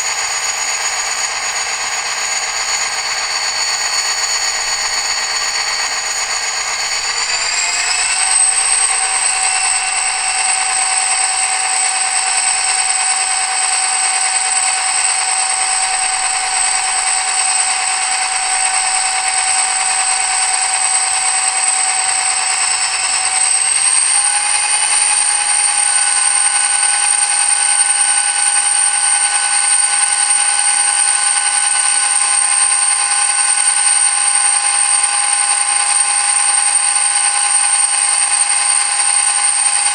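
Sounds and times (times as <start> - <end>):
diesel engine with high whine: 0.0 - 39.9.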